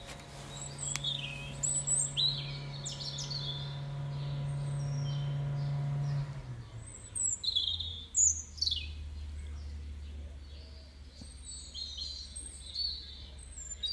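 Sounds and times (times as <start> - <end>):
birds chirping: 0.0 - 13.9
steady low hum: 0.0 - 13.9.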